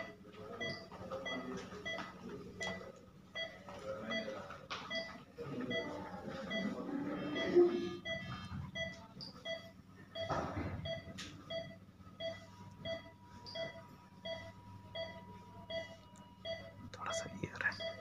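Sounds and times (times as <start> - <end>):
patient monitor pulse beeps: 0.0 - 18.0.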